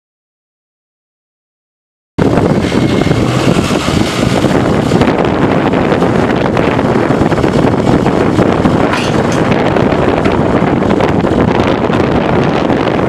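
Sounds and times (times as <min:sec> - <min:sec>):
diesel engine running: 0:02.2 - 0:13.0
wind buffeting microphone: 0:02.2 - 0:13.0.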